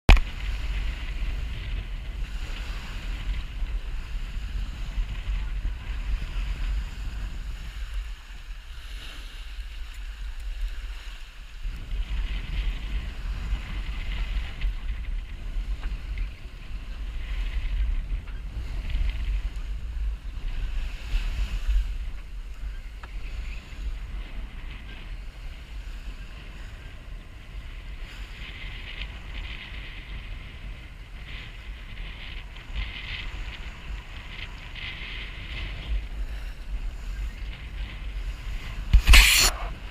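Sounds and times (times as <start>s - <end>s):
wind buffeting microphone: 0.1s - 39.9s.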